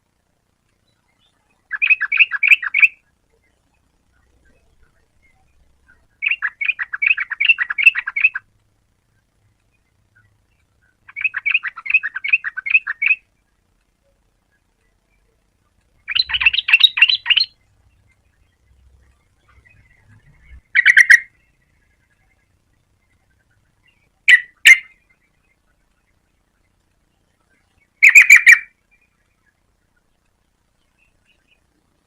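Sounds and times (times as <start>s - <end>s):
bird chattering song: 0.8s - 8.5s, 9.2s - 13.6s, 14.4s - 31.8s.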